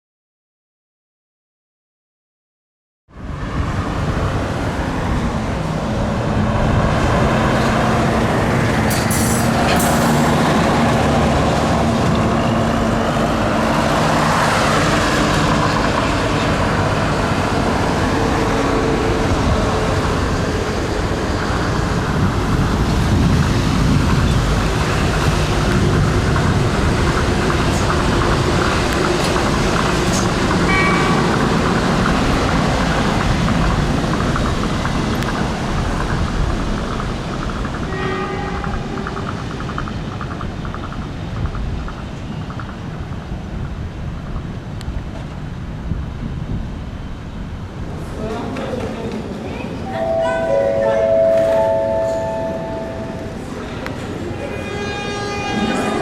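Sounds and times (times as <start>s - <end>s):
monorail train rumble: 3.1s - 56.0s.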